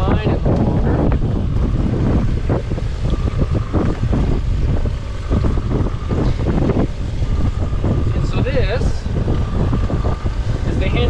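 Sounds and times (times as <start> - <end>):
boat engine rumble: 0.0 - 11.0
wind buffeting microphone: 0.0 - 11.0.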